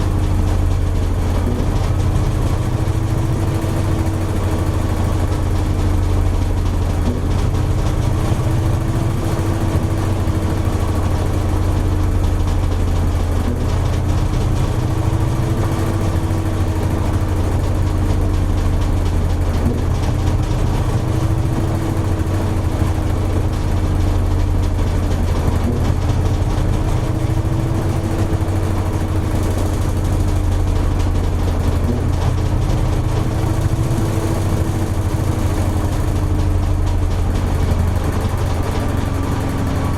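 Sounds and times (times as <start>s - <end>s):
washing machine drum spinning: 0.0s - 39.9s.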